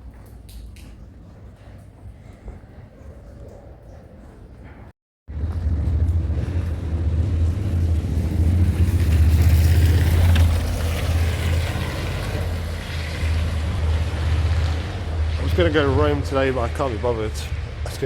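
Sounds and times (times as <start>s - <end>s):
street noise: 0.0s - 18.0s.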